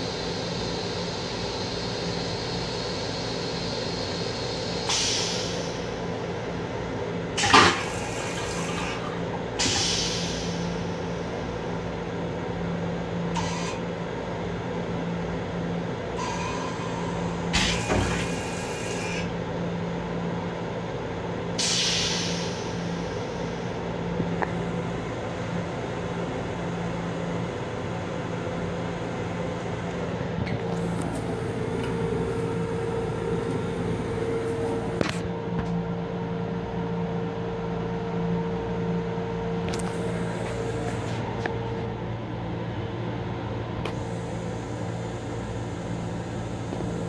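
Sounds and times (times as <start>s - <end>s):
electric railcar hum: 0.0s - 47.0s.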